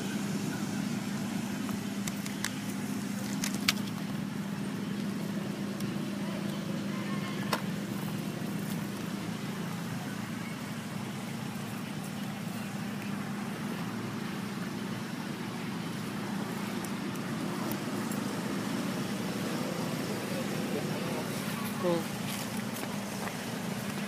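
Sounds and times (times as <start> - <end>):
background hum and rumble: 0.0 - 24.0.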